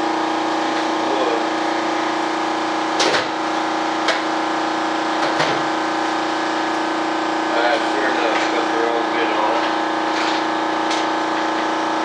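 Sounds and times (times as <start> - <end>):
air compressor humming: 0.0 - 12.0.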